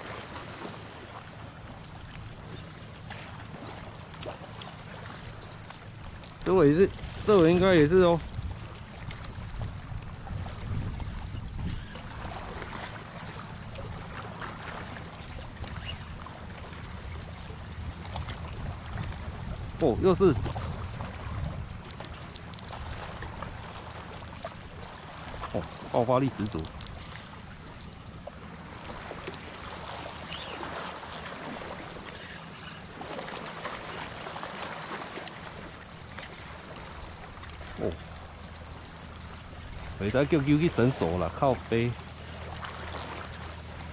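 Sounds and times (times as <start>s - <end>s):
insect trilling: 0.0s - 1.0s, 1.8s - 6.4s, 7.3s - 14.0s, 14.9s - 18.9s, 19.5s - 21.1s, 22.3s - 23.6s, 24.3s - 43.9s.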